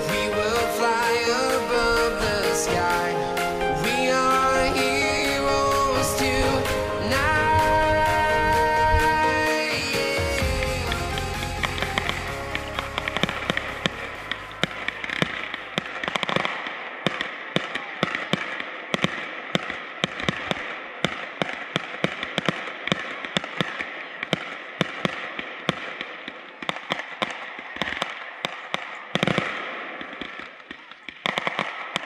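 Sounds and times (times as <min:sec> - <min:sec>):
fireworks bangs and pops: 0:00.0 - 0:32.0
fireworks crackling: 0:00.0 - 0:32.0.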